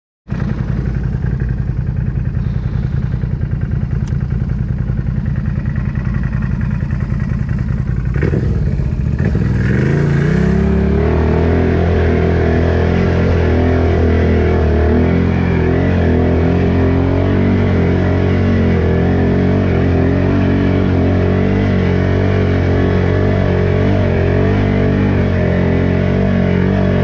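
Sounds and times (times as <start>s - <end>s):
off-road vehicle engine rumbling: 0.3s - 27.0s.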